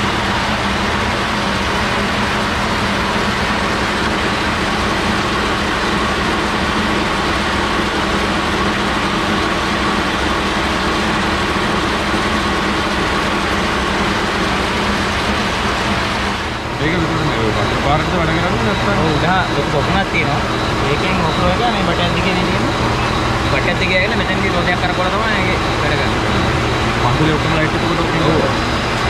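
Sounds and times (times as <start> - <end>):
faint generator hum: 0.0 - 29.0
water turbine whirring rush: 0.0 - 29.0.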